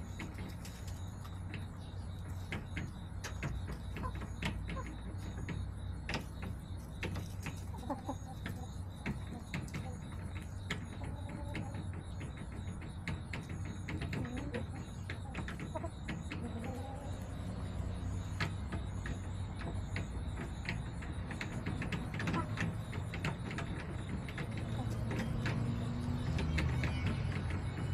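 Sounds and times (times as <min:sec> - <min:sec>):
hens clucking: 0:00.0 - 0:27.9.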